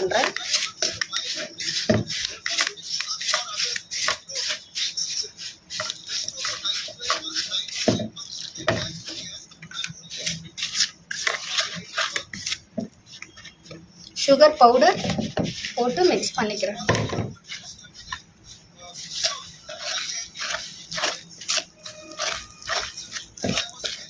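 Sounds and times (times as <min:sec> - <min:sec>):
spoon stirring thick mixture in bowl: 0:00.0 - 0:24.0.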